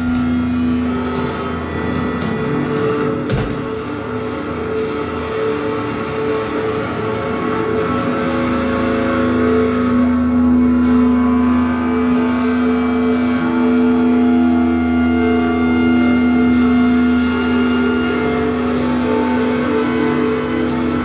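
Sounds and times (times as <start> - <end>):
distorted electric guitar drone: 0.0 - 21.0.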